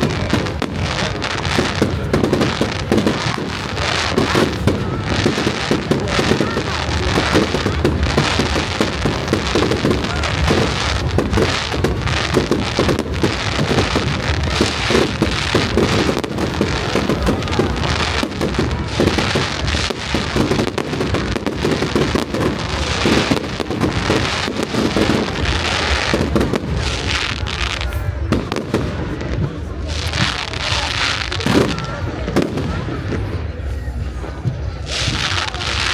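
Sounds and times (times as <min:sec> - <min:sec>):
fireworks bangs and crackling: 0:00.0 - 0:35.9.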